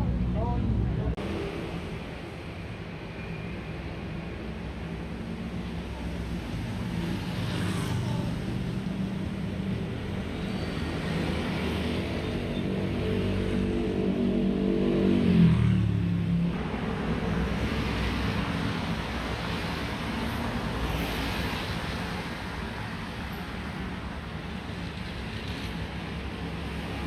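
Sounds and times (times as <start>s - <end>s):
street traffic noise: 0.0s - 27.0s.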